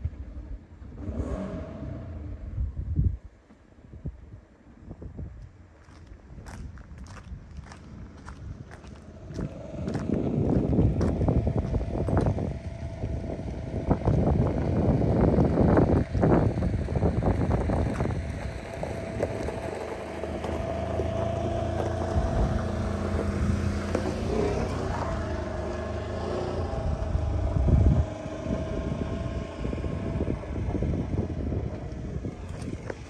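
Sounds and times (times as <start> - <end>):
wind rumbling on microphone: 0.0 - 33.0
vehicle engine idling: 5.8 - 33.0.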